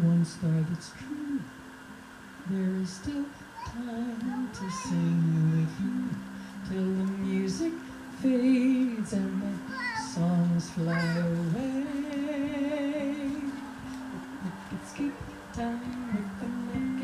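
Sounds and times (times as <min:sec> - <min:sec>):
voices singing held notes: 0:00.0 - 0:17.0.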